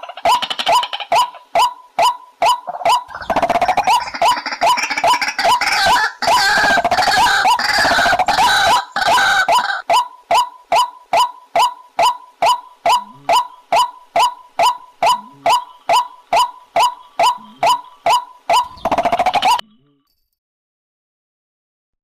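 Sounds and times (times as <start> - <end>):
chorus of overlapping bird calls: 0.0 - 19.6.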